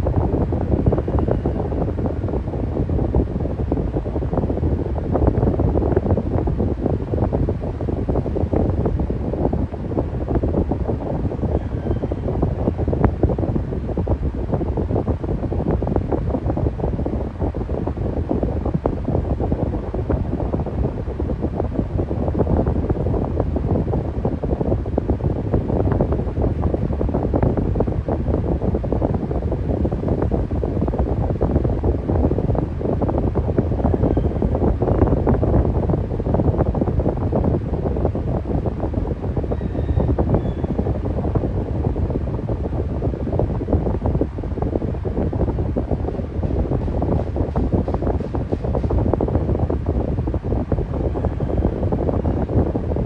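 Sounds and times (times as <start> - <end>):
electric fan running: 0.0 - 53.0.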